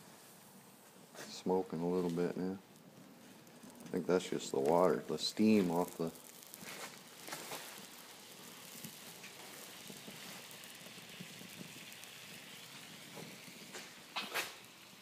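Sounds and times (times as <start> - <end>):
fire crackling and popping: 0.0 - 15.0
water boiling in a skillet: 0.0 - 15.0.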